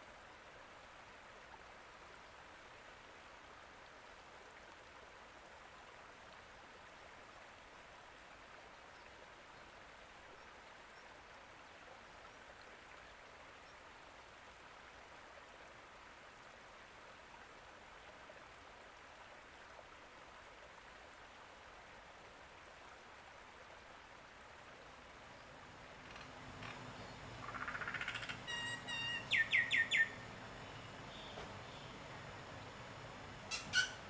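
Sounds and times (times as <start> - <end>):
running water: 0.0 - 34.0.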